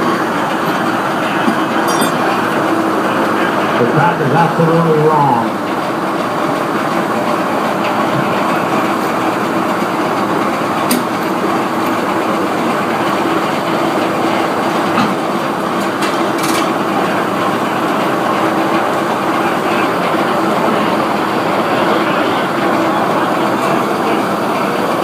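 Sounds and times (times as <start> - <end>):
sawmill machinery humming and clattering: 0.0 - 25.0.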